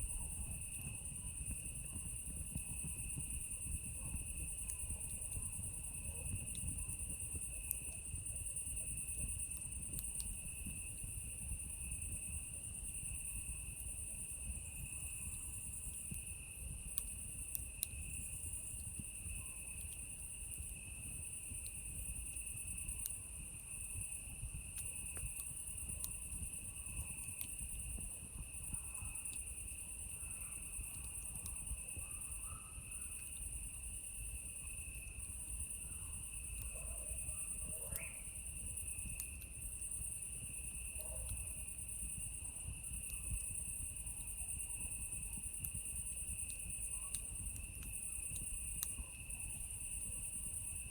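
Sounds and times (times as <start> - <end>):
campfire crackling and popping: 0.0 - 50.9
night insects chirping: 0.0 - 50.9.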